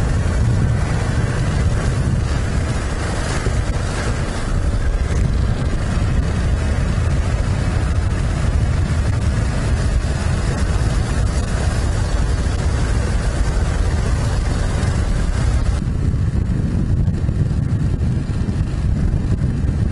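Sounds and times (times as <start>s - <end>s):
vehicle rumble and wind rush: 0.0s - 19.9s
wind buffeting microphone: 0.0s - 19.9s.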